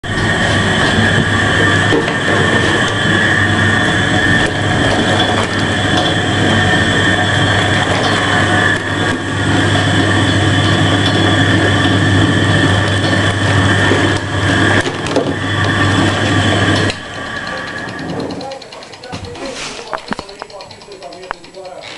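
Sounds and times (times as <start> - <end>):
mechanical clattering and rattling: 0.0 - 21.9
washing machine motor hum: 0.0 - 21.9.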